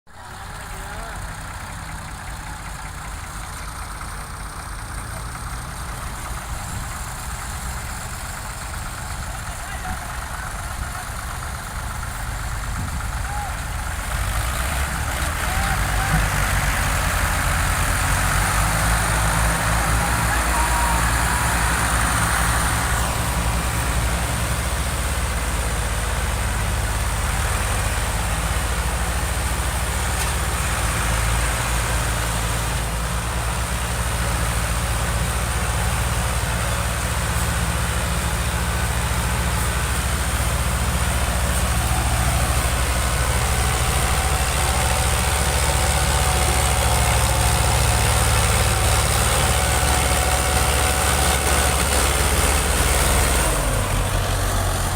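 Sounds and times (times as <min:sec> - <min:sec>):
diesel tractor engines running: 0:00.1 - 0:54.9.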